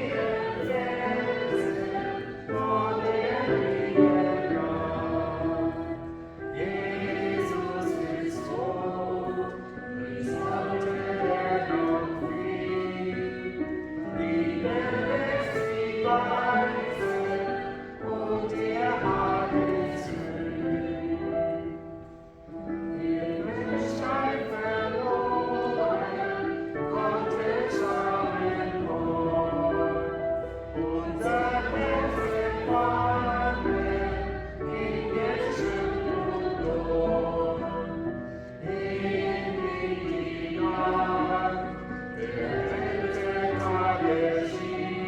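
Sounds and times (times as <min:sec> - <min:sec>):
choir singing a slow hymn: 0:00.0 - 0:45.0.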